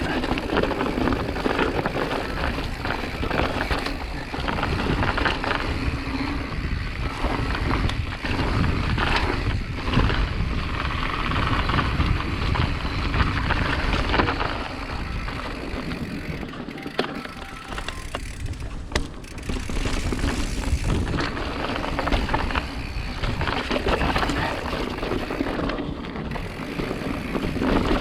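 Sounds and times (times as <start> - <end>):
wind rushing over microphone: 0.0 - 16.6, 17.7 - 28.0
mountain bike rattling and knocking: 0.0 - 28.0.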